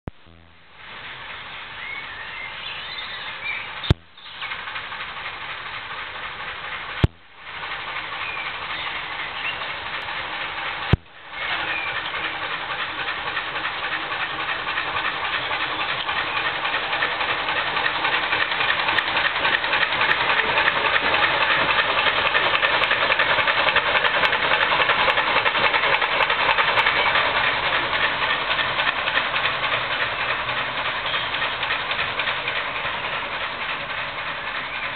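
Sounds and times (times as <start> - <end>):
diesel locomotive engine running: 0.1 - 34.9.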